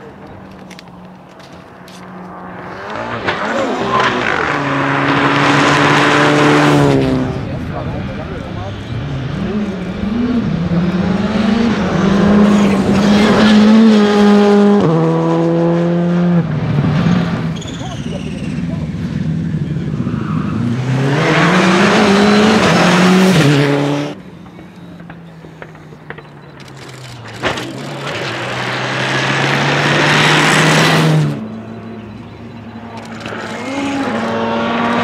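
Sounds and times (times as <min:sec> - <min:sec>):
rally car engine accelerating: 0:02.2 - 0:24.2, 0:26.1 - 0:35.0.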